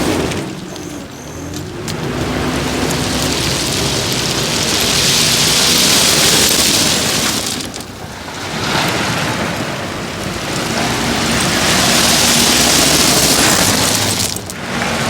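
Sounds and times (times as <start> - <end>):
low engine hum: 0.0 - 15.0
loose rock pouring and sliding: 0.1 - 15.0.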